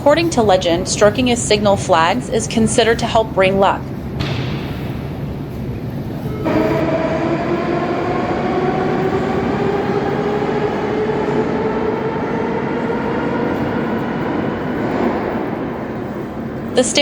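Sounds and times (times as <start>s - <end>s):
train traction motors whining: 0.0s - 4.2s, 5.0s - 17.0s
train wheels rumbling on rails: 0.0s - 17.0s.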